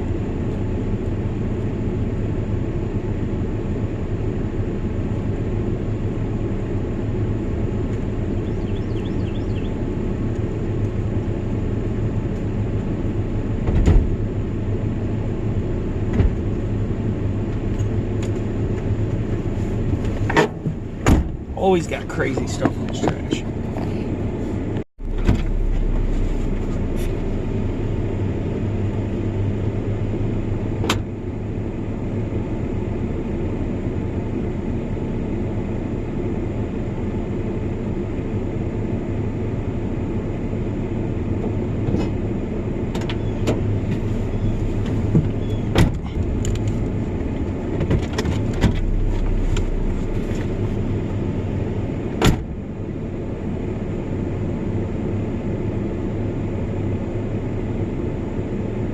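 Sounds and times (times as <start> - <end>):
truck engine and road noise: 0.0 - 58.9.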